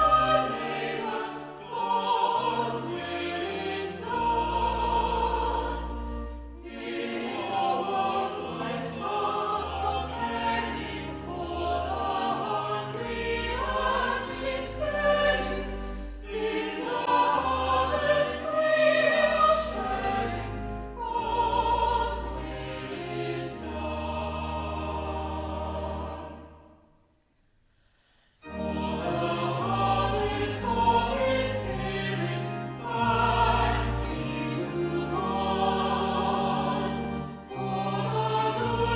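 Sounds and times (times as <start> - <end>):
instrumental accompaniment: 0.0 - 26.7, 28.4 - 38.9
choir singing sacred piece: 0.0 - 27.0, 28.4 - 38.9.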